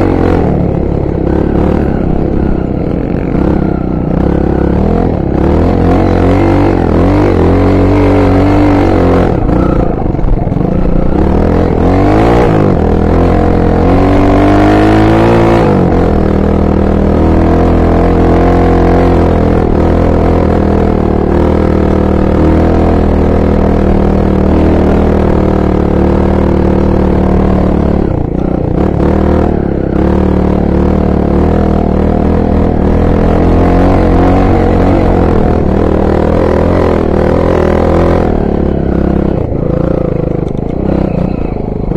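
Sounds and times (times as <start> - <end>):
trail bike engine running: 0.0 - 41.9.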